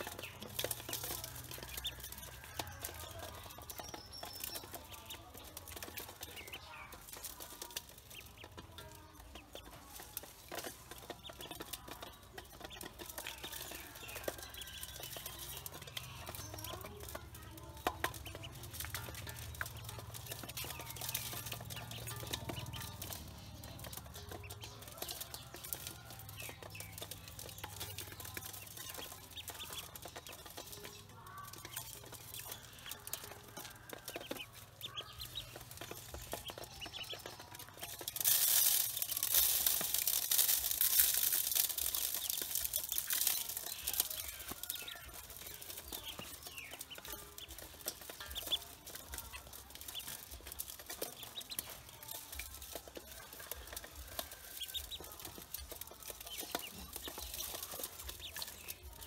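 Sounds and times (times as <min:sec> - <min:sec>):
bills clicking against metal bowl: 0:00.0 - 0:59.0
ducklings peeping: 0:00.0 - 0:59.0.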